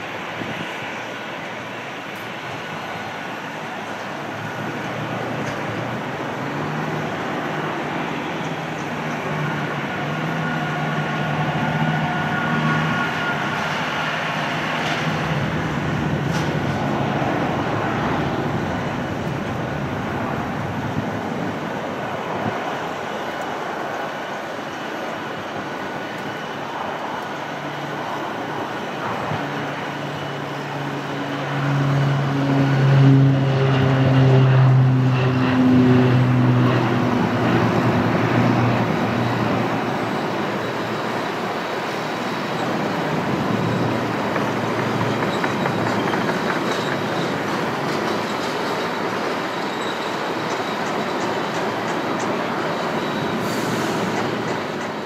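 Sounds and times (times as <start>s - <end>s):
turboprop propeller drone: 0.0s - 55.0s.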